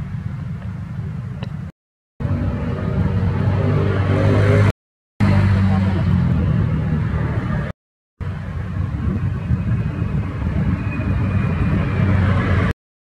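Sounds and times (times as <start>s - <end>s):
motor vehicle engine rumble: 0.0s - 12.7s.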